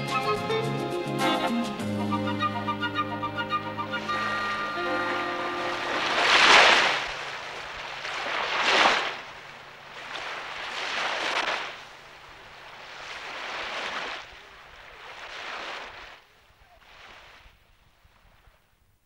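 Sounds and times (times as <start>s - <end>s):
waves washing in: 3.0s - 18.4s.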